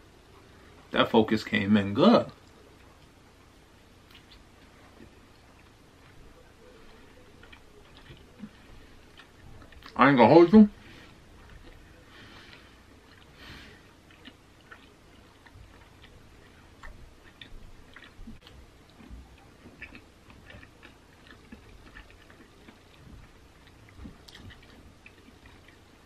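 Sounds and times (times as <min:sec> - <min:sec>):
chewing with mouth closed: 0:04.0 - 0:10.0, 0:10.8 - 0:26.0
crunches of crust: 0:04.0 - 0:26.0.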